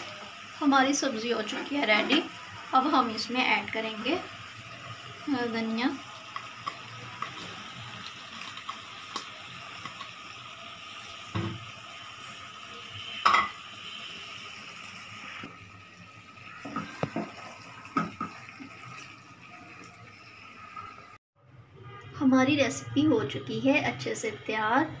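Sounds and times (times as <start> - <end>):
curry hissing in a pot: 0.0 - 21.2.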